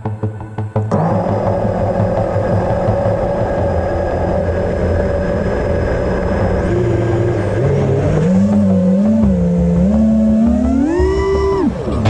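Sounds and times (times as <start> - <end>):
drone motors humming: 0.0 - 12.0.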